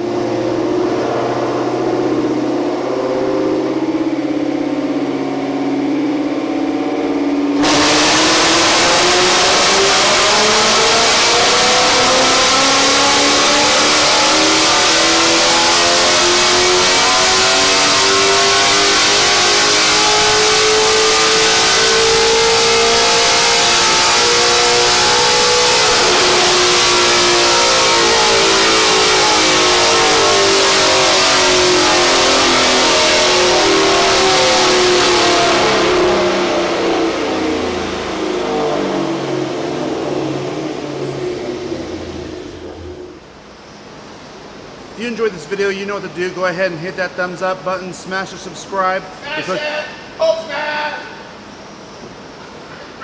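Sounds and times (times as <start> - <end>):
car engine revving on a dyno: 0.0 - 49.3.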